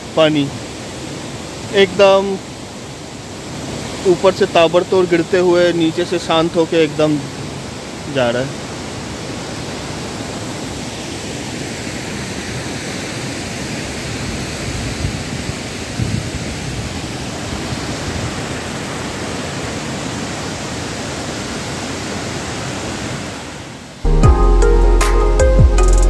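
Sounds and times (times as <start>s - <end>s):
waterfall rushing: 0.0s - 24.2s.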